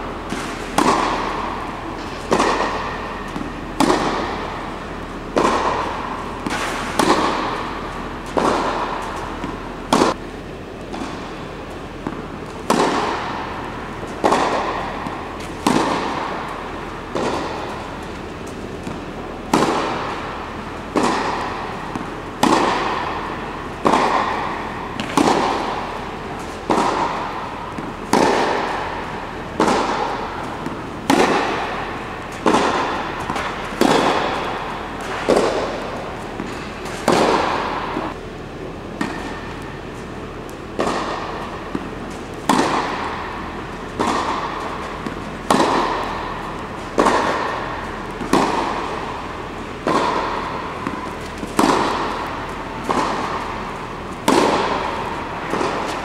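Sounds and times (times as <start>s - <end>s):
tennis racket striking ball: 0.0s - 56.0s.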